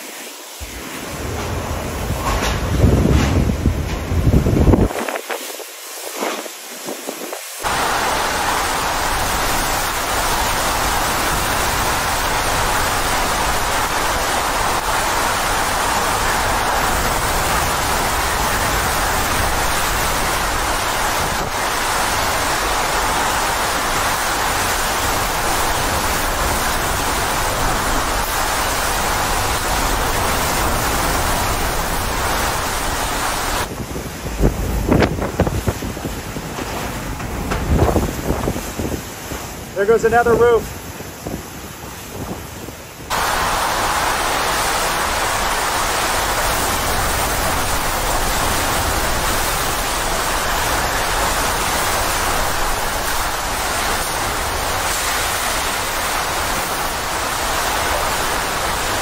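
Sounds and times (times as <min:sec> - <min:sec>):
driving rain: 0:00.0 - 0:59.0
hurricane wind: 0:00.0 - 0:59.0.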